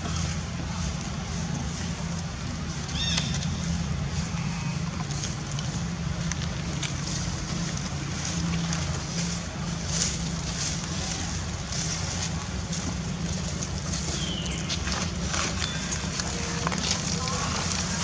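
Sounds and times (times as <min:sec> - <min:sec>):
light clicks and rustles: 0:00.0 - 0:18.0
outdoor background rumble and hiss: 0:00.0 - 0:18.0.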